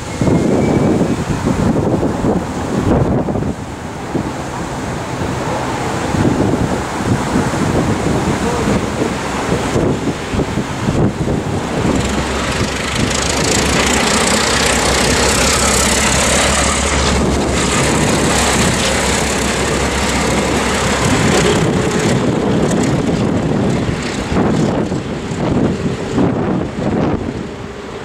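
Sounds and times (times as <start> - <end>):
locomotive engine drone: 0.0 - 28.0
wind buffeting microphone: 0.0 - 28.0.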